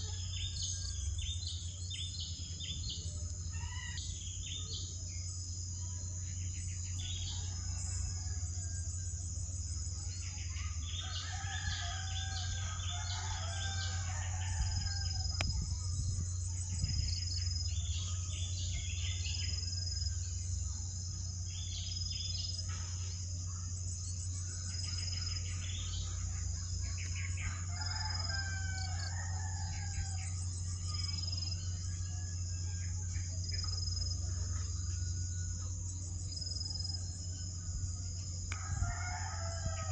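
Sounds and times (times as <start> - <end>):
constant low hum: 0.0 - 39.9.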